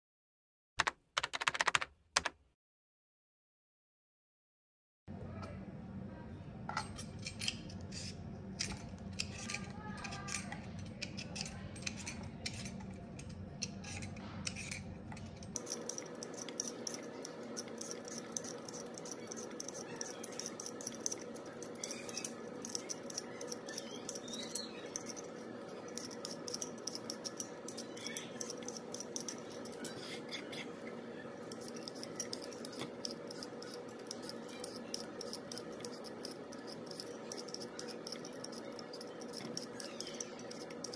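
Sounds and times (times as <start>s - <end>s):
peeler scraping potato skin: 7.2s - 14.9s, 15.5s - 40.9s.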